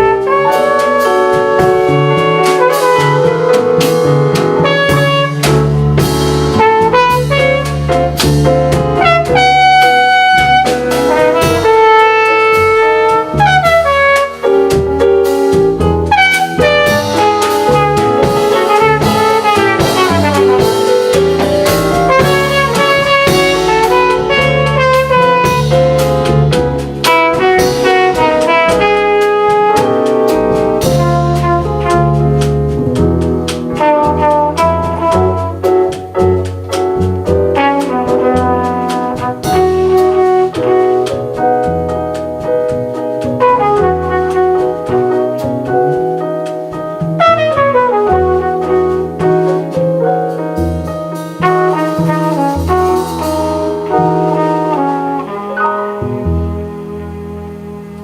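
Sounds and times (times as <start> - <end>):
brass horn melody: 0.0 - 58.0
drum kit with cymbals: 0.0 - 58.0
piano: 0.0 - 58.0
upright bass: 0.0 - 58.0.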